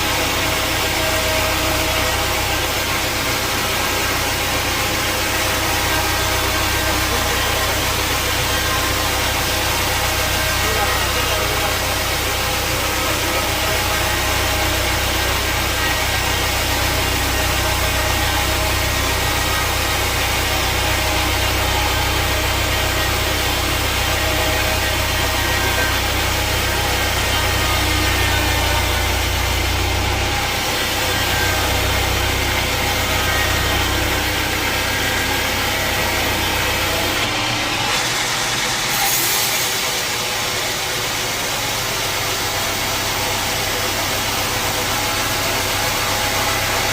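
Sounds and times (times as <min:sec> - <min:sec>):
deep hum: 0:00.0 - 0:38.0
sawmill machinery drone: 0:00.0 - 0:46.9.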